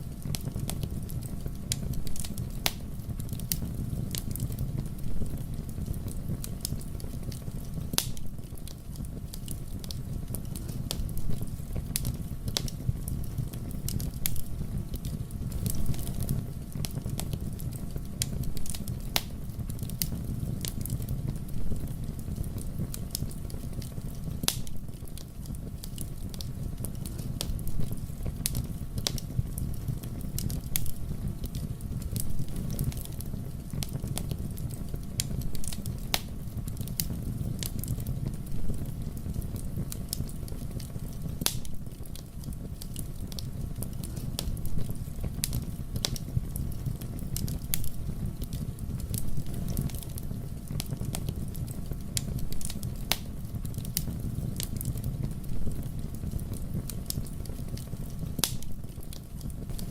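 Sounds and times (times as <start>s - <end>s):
burning wood crackling and popping: 0.0s - 59.9s
fire flames rumbling: 0.0s - 59.9s.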